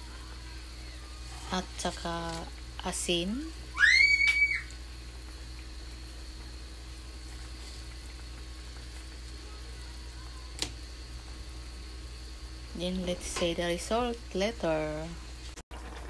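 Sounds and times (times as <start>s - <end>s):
faint steady hum: 0.0s - 16.0s
stew bubbling in a pan: 0.1s - 16.0s.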